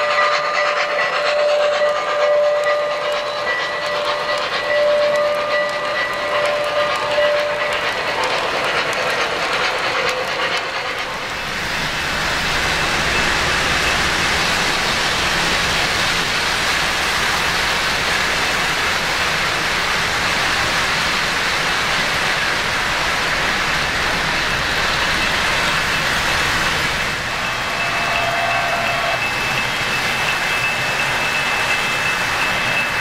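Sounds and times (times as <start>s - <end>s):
model train rumble and clatter: 0.0s - 33.0s.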